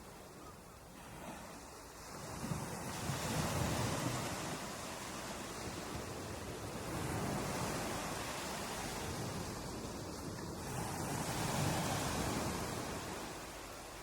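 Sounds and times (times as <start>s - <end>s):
waves washing onto a beach: 0.0s - 14.0s.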